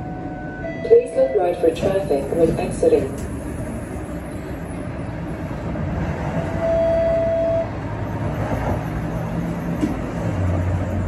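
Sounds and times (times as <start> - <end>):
streetcar low hum: 0.0 - 11.0.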